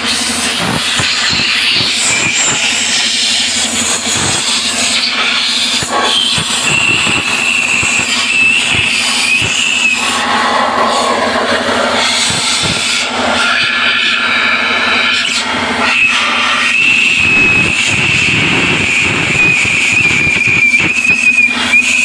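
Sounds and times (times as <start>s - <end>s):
steady low hum: 0.0s - 20.5s
high-pitched whistling tone: 0.4s - 22.0s
rough rubbing noise: 2.0s - 21.1s.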